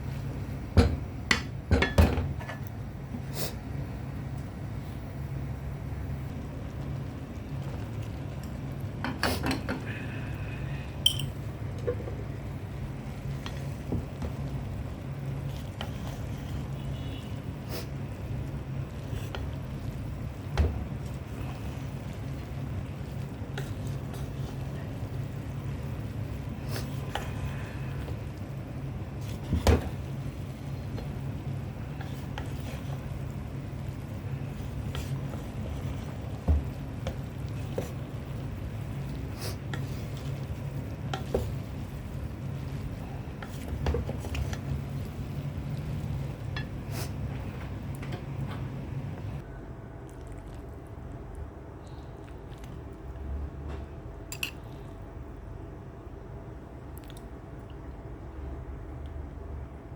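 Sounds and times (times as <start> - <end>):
steady low hum: 2.6 - 59.9.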